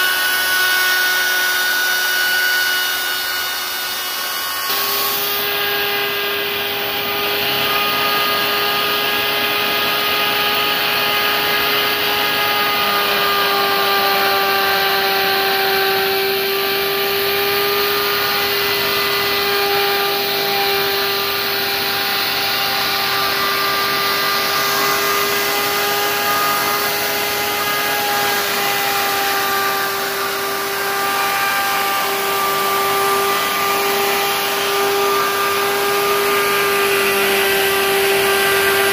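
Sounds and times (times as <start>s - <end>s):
electric router whining: 0.0s - 38.9s.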